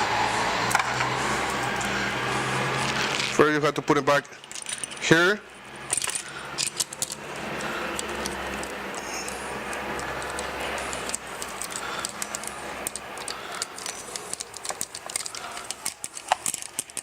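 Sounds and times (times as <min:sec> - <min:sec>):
saw chain links rattling and clicking: 0:03.0 - 0:17.0.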